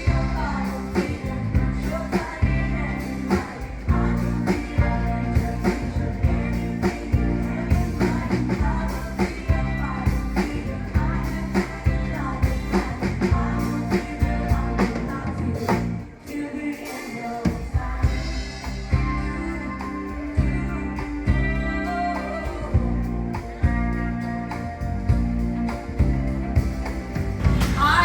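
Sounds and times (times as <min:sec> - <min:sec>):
upbeat rock-pop song with vocals: 0:00.0 - 0:28.0.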